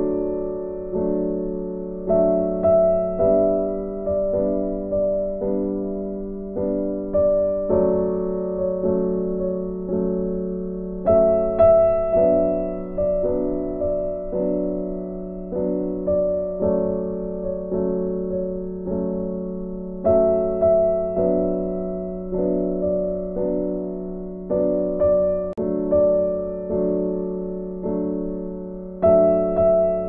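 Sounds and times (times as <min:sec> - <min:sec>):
soft piano music: 0:00.0 - 0:30.0.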